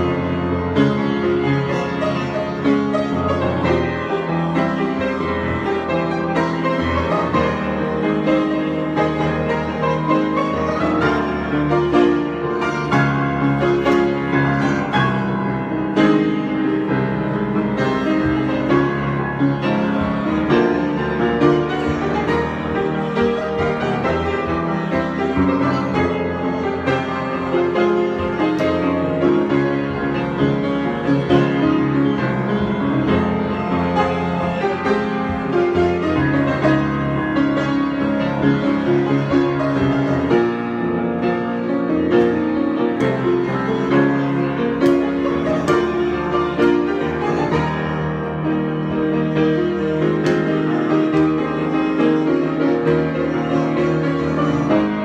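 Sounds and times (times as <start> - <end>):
grand piano playing: 0.0 - 55.0.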